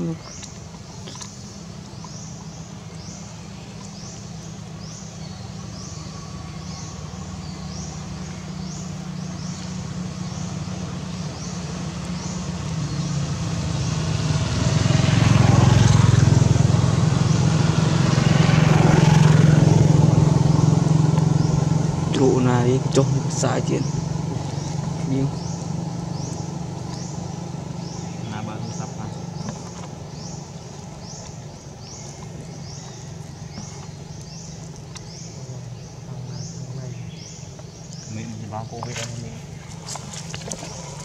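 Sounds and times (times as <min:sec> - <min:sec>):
motor engine droning: 0:00.0 - 0:41.0.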